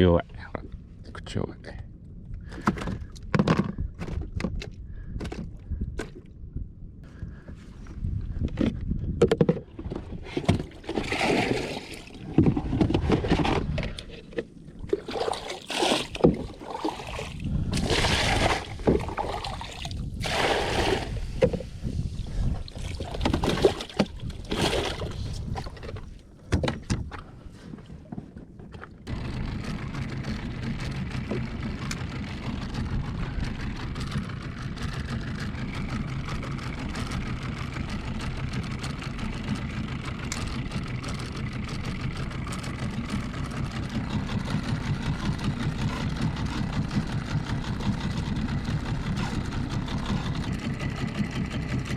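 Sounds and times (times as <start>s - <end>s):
outboard motor running: 1.9s - 51.9s
water sloshing around a boat: 2.0s - 51.9s.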